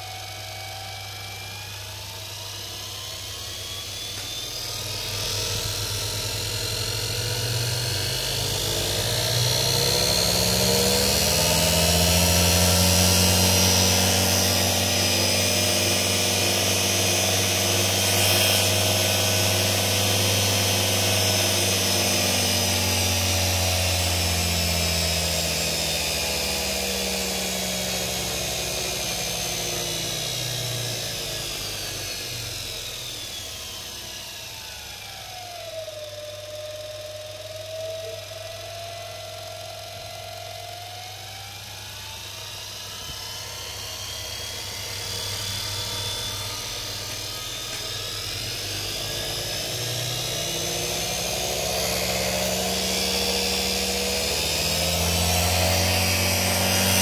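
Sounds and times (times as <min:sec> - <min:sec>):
dynamo whine: 0:00.0 - 0:57.0.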